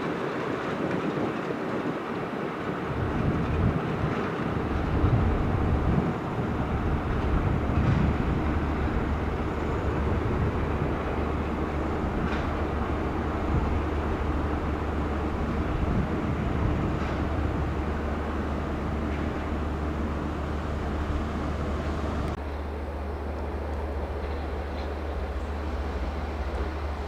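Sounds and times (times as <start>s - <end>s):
diesel locomotive engine drone: 0.0s - 27.0s.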